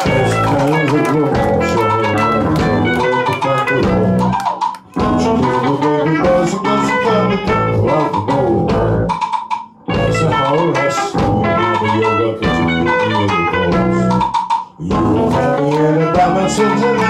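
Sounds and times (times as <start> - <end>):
bass guitar: 0.0 - 17.0
drums: 0.0 - 17.0
electric guitars: 0.0 - 17.0.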